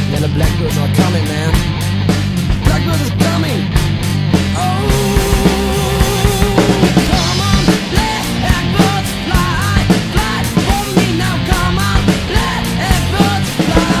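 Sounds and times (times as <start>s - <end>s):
rock band playing: 0.0s - 14.0s
wavering lead guitar notes: 0.0s - 14.0s.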